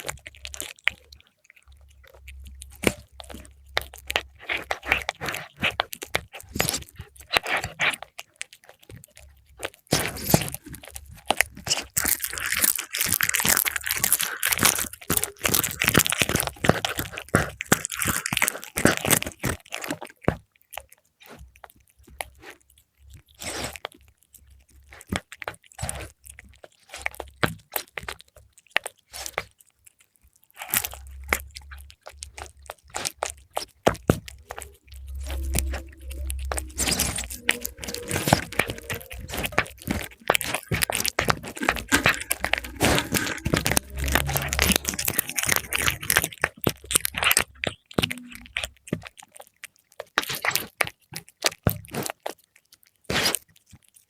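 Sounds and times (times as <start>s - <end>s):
cat chewing and crunching: 0.0s - 54.0s.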